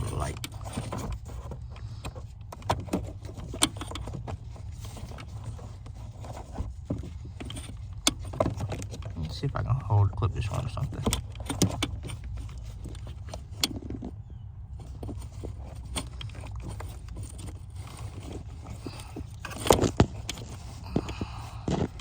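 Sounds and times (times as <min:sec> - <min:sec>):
clicks and rattles of handling a light: 0:00.0 - 0:09.4, 0:10.2 - 0:22.0
steady low hum: 0:00.0 - 0:22.0.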